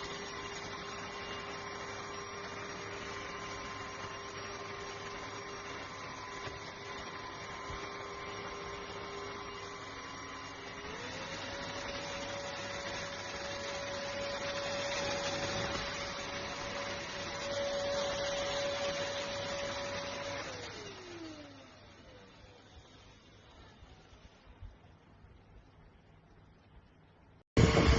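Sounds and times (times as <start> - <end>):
vacuum cleaner motor whine: 0.0 - 24.5, 27.6 - 27.9.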